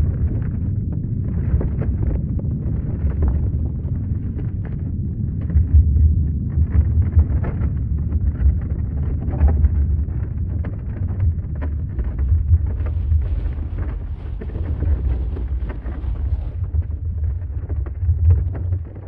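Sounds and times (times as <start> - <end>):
crackling and rattling: 0.0 - 19.0
deep earthquake rumble: 0.0 - 19.0.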